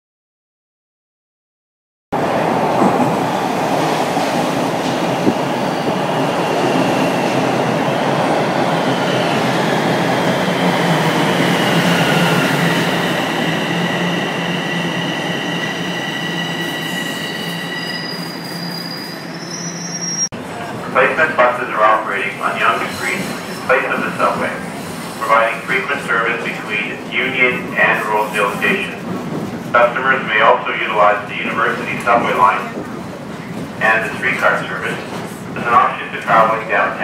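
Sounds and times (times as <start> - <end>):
train wheels rumbling on rail: 2.2 - 17.0, 22.2 - 37.0.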